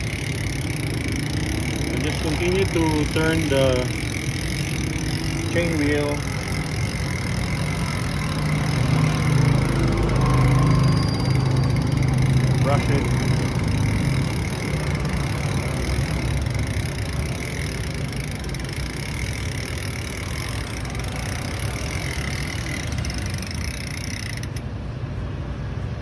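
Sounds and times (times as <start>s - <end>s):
vehicle engine idling: 0.0s - 25.3s.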